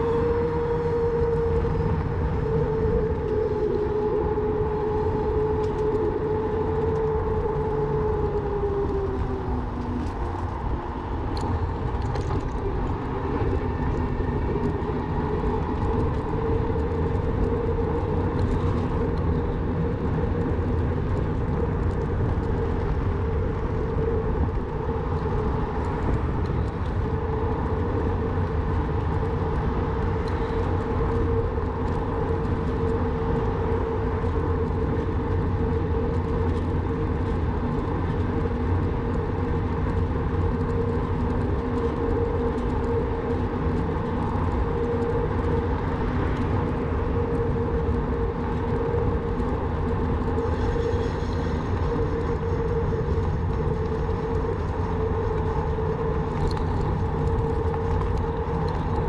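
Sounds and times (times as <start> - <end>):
electric bike motor whining: 0.0 - 59.0
wind and tyre rumble: 0.0 - 59.0.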